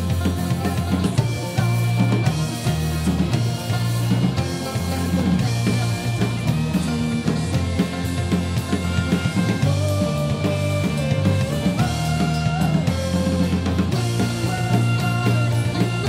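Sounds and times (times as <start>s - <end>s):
bagpipes: 0.0s - 16.0s
bass guitar: 0.0s - 16.0s
drum kit beat: 0.0s - 16.0s.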